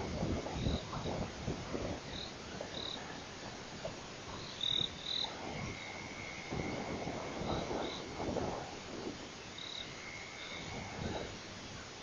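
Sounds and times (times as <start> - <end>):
steady insect trill: 0.0 - 12.0.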